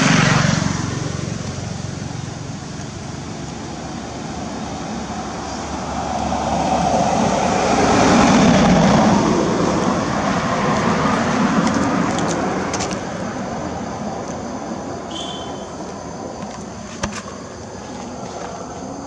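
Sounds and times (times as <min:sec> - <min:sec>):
vehicle passing: 0:00.0 - 0:16.8.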